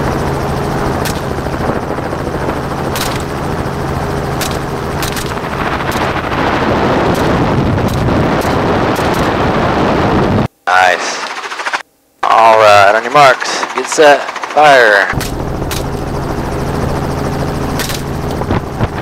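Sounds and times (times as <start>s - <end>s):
heavy wind rush: 0.0s - 11.8s, 12.5s - 19.0s
helicopter rotor and engine drone: 0.0s - 19.0s.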